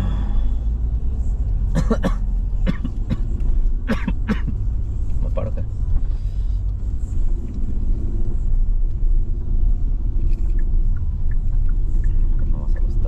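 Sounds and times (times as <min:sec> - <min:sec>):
car interior engine and road noise: 0:00.0 - 0:13.0.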